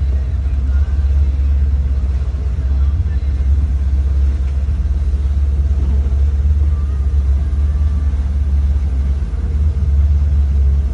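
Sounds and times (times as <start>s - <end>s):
motorboat engine rumble: 0.0s - 10.9s.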